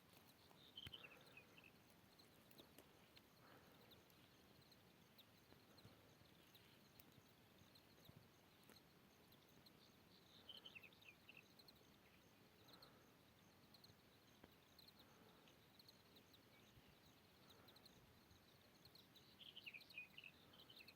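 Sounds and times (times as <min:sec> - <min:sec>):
faint background hiss: 0:00.0 - 0:20.9
small birds chirping: 0:00.0 - 0:20.9.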